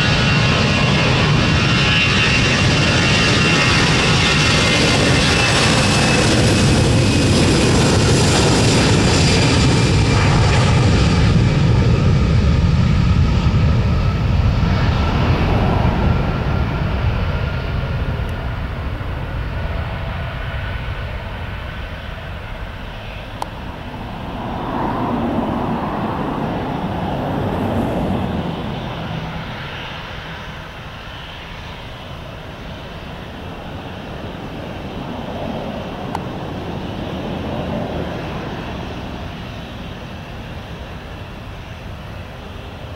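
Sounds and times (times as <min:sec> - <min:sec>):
jet engines at takeoff whining: 0:00.0 - 0:42.9.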